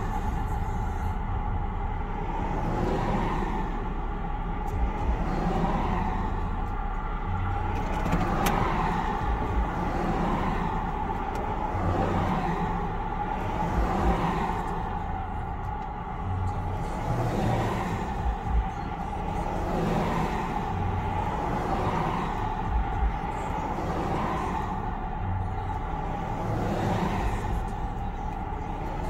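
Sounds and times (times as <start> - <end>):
cars passing on highway: 0.0 - 29.0
steady low traffic rumble: 0.0 - 29.0.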